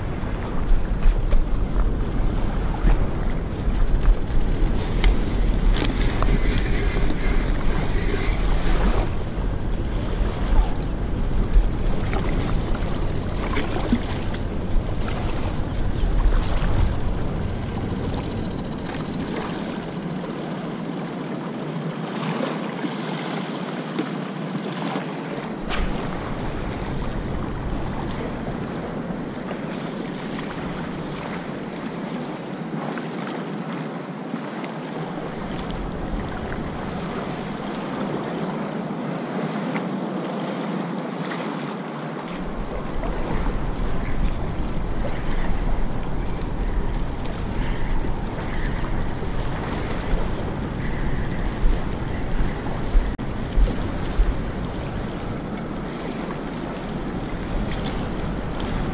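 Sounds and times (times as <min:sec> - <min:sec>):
wind rumbling on microphone: 0:00.0 - 0:22.0, 0:25.2 - 0:40.6, 0:42.2 - 0:58.9
small waves lapping on shore: 0:00.0 - 0:58.9.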